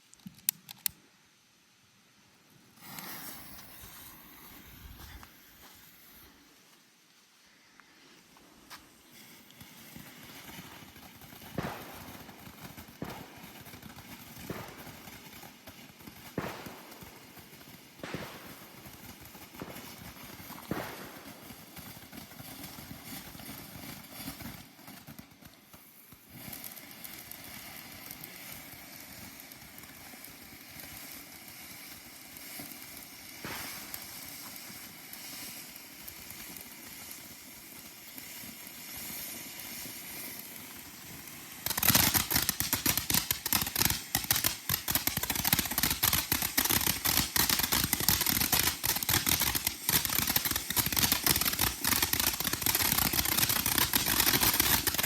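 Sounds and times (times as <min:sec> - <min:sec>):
fireworks crackling and popping: 0:00.0 - 0:01.0, 0:02.4 - 0:55.0.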